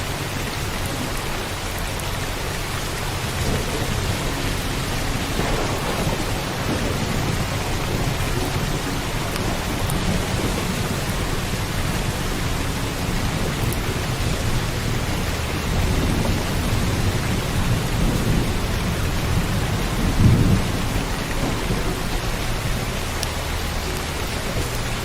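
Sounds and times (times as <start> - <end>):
rumble of thunder: 0.0 - 25.0
steady rain: 0.0 - 25.0.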